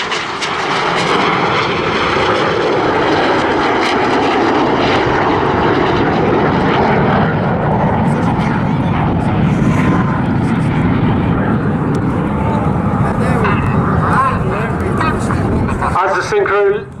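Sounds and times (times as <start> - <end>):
jet aircraft roaring past: 0.0 - 17.0.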